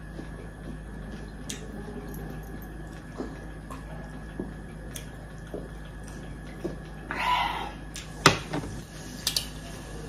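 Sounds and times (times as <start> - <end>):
eating and drinking noises: 0.0 - 10.0
steady background hum: 0.0 - 10.0.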